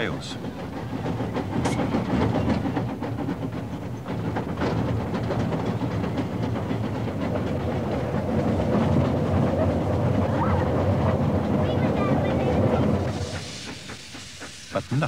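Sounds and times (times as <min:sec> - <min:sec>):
steam locomotive engine rumble: 0:00.0 - 0:15.0
wheels clattering on rail: 0:00.0 - 0:15.0.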